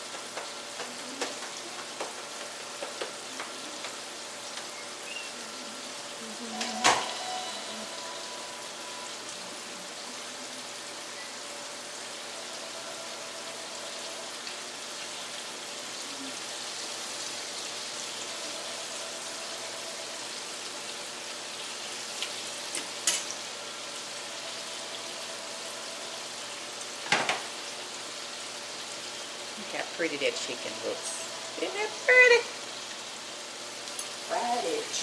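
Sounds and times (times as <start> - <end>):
chicken sizzling in a skillet: 0.0 - 35.0.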